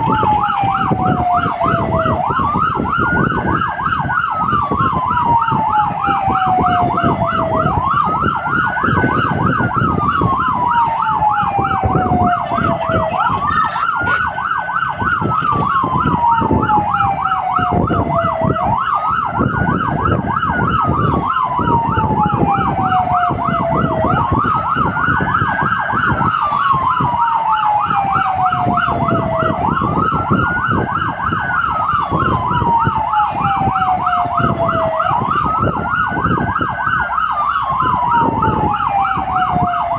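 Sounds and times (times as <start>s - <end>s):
fast yelping siren: 0.0s - 39.9s
truck engine and road noise: 0.0s - 39.9s
wailing siren: 0.0s - 39.9s.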